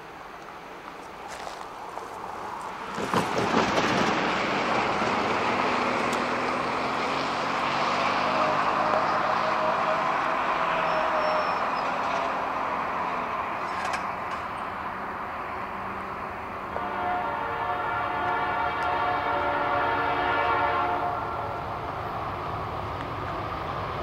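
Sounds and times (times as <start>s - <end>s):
diesel locomotive engine running: 0.0s - 24.0s
train noise: 0.0s - 24.0s.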